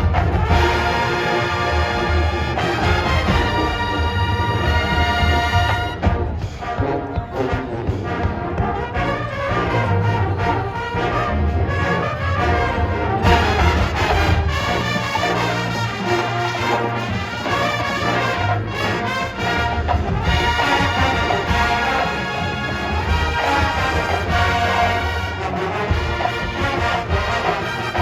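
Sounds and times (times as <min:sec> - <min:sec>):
marching band playing brass: 0:00.0 - 0:28.0.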